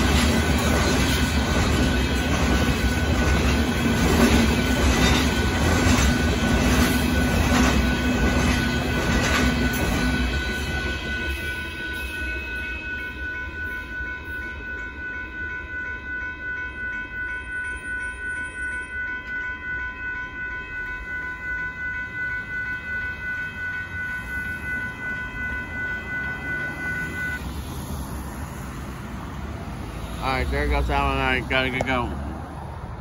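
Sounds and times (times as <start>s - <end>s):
high ringing tones: 0.0s - 28.6s
freight train rumbling past: 0.0s - 33.0s.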